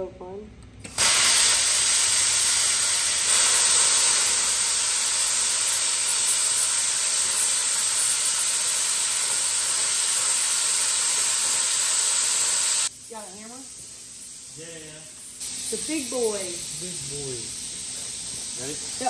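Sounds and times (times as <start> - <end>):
plasma cutter hissing: 0.9 - 19.0.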